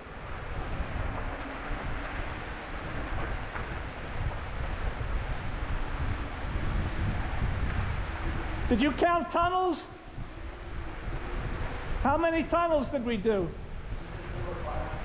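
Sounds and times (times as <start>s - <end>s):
e-bike rolling rumble: 0.0s - 15.0s
wind rush on microphone: 0.0s - 15.0s.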